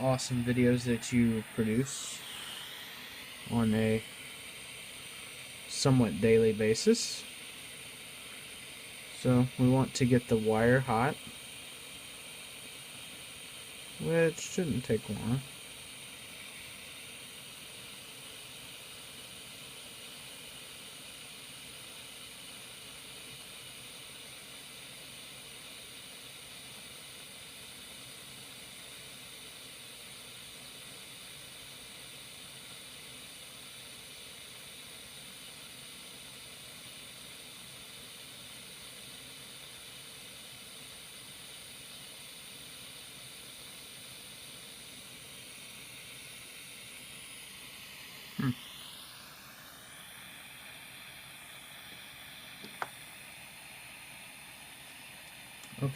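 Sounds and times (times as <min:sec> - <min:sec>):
soldering iron hissing: 0:00.0 - 0:55.9.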